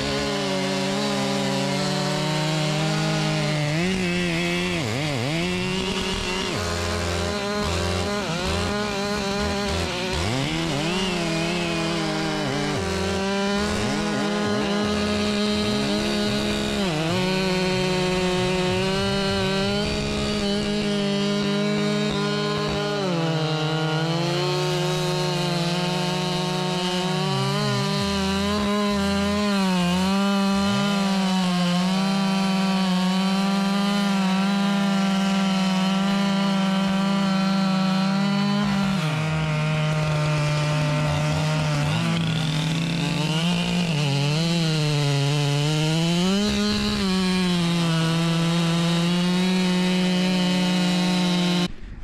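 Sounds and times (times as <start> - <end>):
chainsaw cutting through a log: 0.0 - 52.0.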